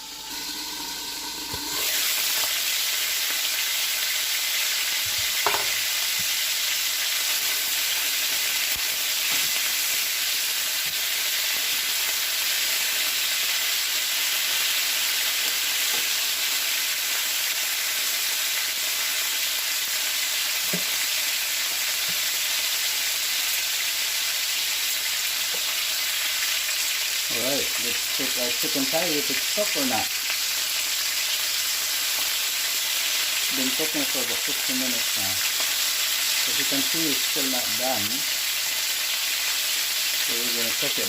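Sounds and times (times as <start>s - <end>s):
chicken sizzling in a frying pan: 0.0s - 41.0s.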